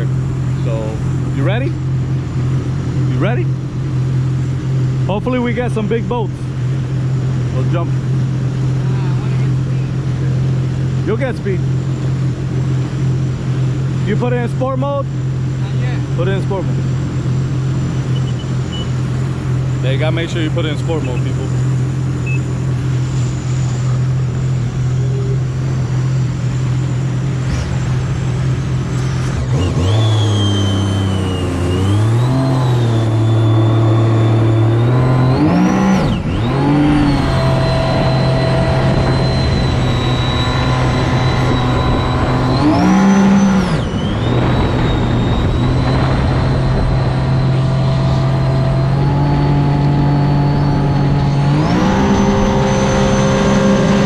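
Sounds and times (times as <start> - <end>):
high engine whine: 0.0 - 54.0
jet ski engine revving: 0.0 - 54.0.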